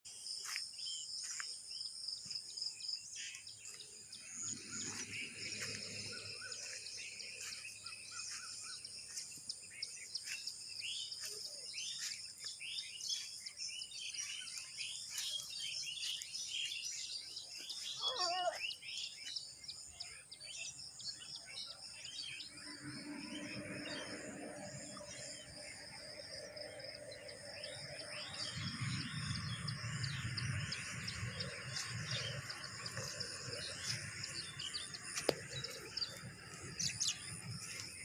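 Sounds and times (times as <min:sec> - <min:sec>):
birds chirping: 0:00.1 - 0:38.0.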